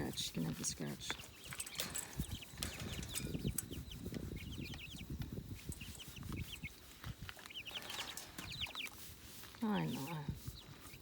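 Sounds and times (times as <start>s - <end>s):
young chickens peeping: 0.0s - 11.0s.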